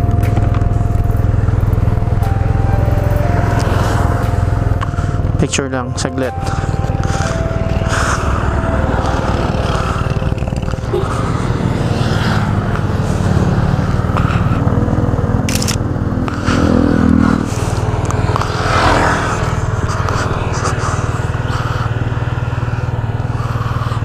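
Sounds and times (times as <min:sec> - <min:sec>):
scooter engine running: 0:00.0 - 0:24.0
wind and road noise: 0:00.0 - 0:24.0.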